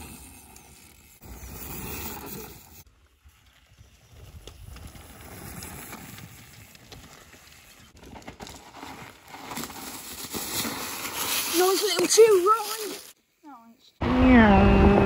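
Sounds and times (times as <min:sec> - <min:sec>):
bike tyres crunching on dirt: 0:00.0 - 0:13.2.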